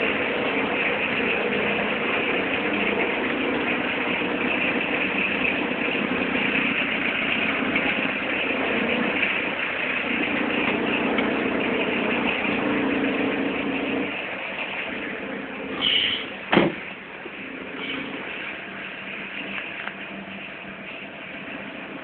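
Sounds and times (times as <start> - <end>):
diesel engine idling: 0.0 - 22.0
strange drive belt noise: 0.0 - 22.0.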